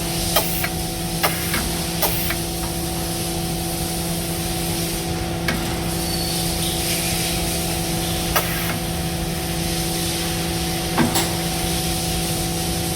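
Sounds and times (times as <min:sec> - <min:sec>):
machine humming over hiss: 0:00.0 - 0:12.9.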